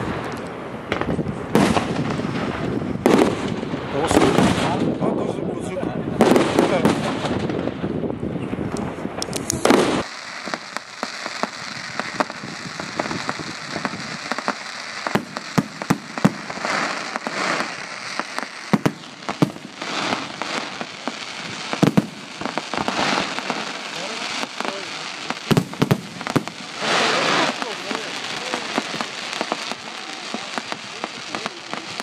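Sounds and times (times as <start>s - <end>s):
fireworks cracking and popping: 0.0s - 5.1s, 5.9s - 8.1s, 8.7s - 32.0s
fireworks crackling: 0.0s - 32.0s.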